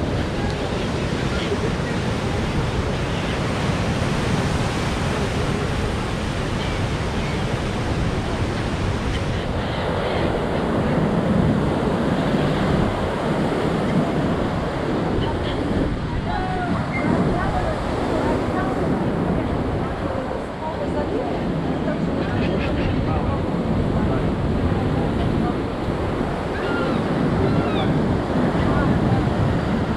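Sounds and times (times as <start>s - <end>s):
wind rushing over microphone: 0.0s - 29.9s.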